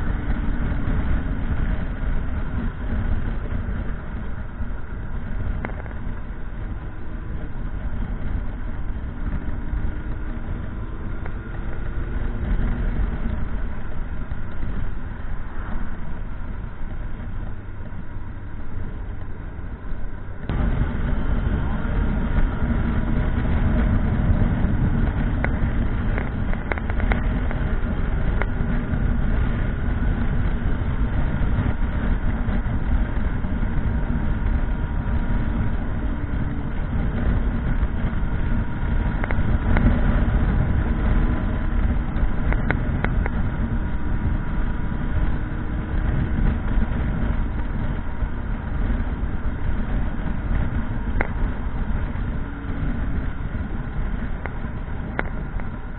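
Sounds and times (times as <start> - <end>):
motorcycle engine rumble: 0.0 - 55.9.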